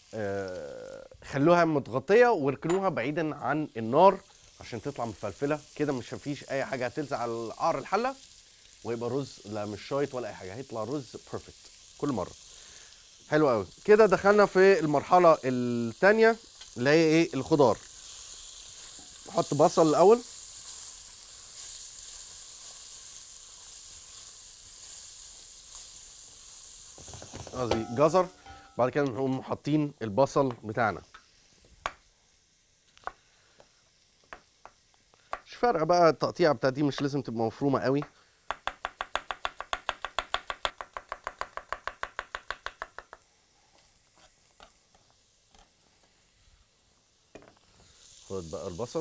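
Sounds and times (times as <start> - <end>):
vegetables sizzling in hot oil: 0.0 - 49.0.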